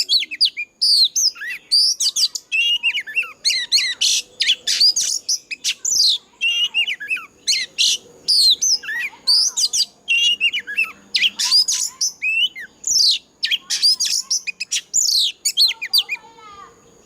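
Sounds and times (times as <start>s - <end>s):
bird singing whistles and trills: 0.0s - 17.0s.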